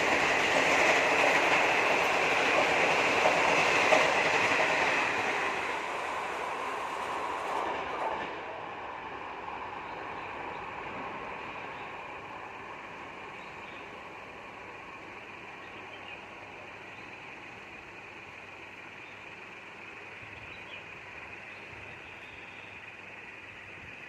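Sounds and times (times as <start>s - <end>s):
train rumble and hiss: 0.0s - 24.0s.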